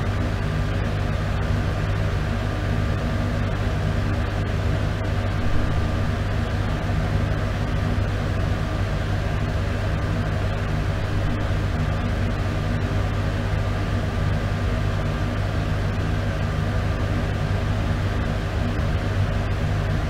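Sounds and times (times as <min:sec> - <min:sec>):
exhaust fan running: 0:00.0 - 0:20.0.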